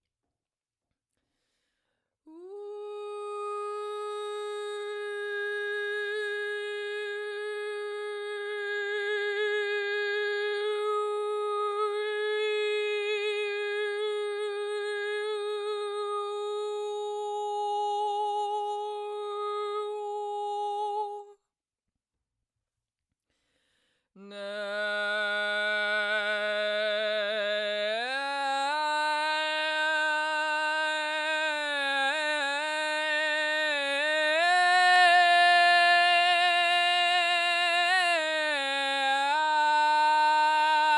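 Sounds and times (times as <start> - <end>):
solo voice holding long notes: 2.3 - 21.4, 24.2 - 40.9.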